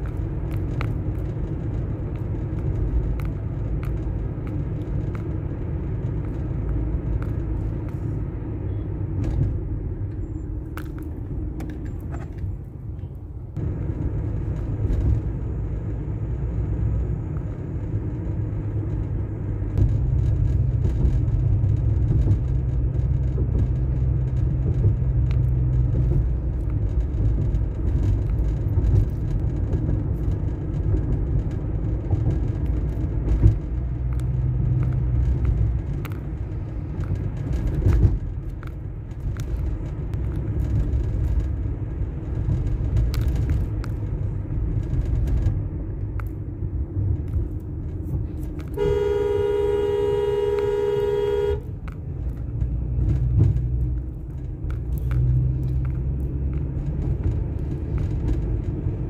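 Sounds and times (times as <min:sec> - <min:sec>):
car engine: 0:00.0 - 0:59.0
road rumble: 0:00.0 - 0:59.0.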